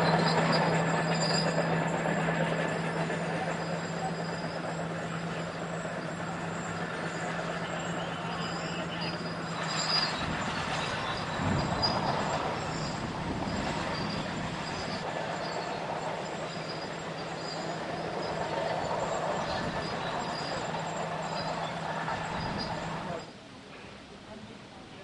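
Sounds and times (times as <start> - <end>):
bulldozer diesel engine droning: 0.0 - 23.4.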